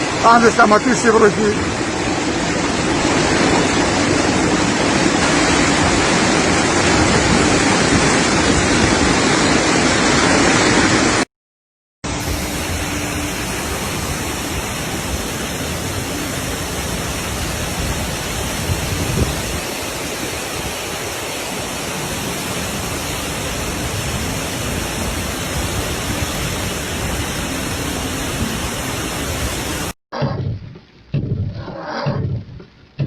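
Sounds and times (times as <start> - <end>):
steady rushing noise: 0.0 - 11.2, 12.1 - 33.0.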